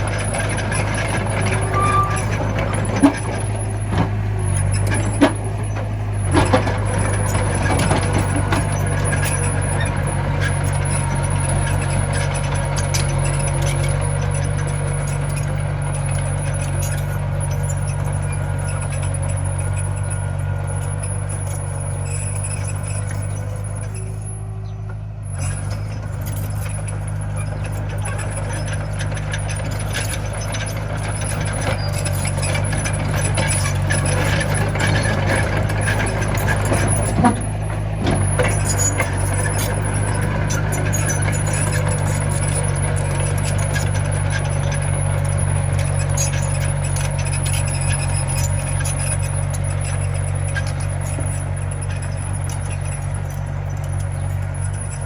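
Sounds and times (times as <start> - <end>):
bulldozer diesel engine running: 0.0 - 55.0
clatter: 0.0 - 55.0.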